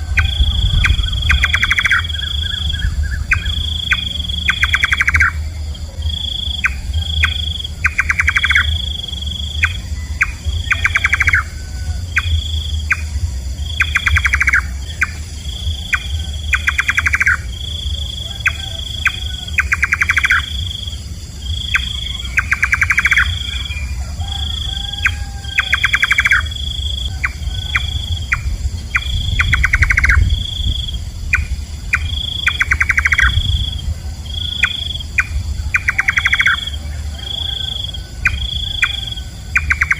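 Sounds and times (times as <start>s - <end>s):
low rumble: 0.0s - 39.8s.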